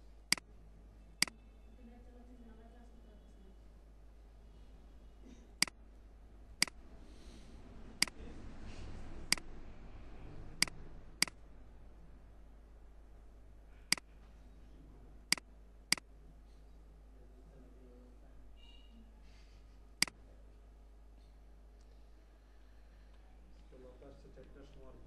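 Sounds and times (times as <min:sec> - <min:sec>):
faint room hiss: 0:00.0 - 0:25.0.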